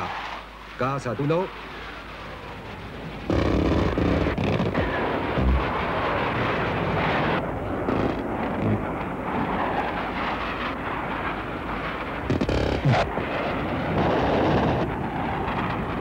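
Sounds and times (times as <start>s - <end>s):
jet flying by: 0.0s - 16.0s
sharp crack: 0.0s - 16.0s.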